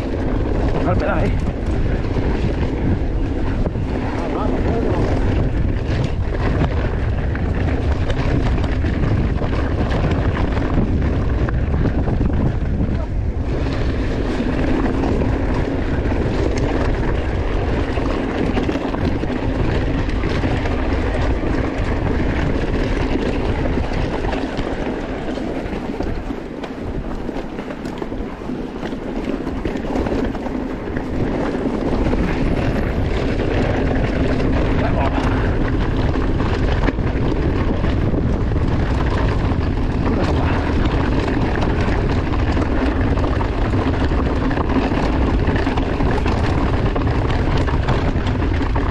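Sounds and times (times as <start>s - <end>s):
bike and trail noise: 0.0s - 48.9s
wind rushing over microphone: 0.0s - 48.9s.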